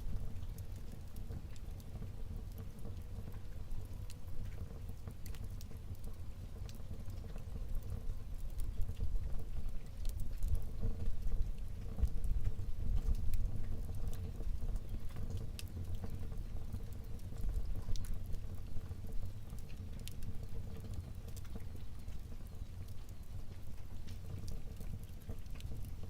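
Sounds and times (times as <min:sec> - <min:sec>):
low rumble of flames: 0:00.0 - 0:26.0
wood fire crackling and popping: 0:00.0 - 0:26.0.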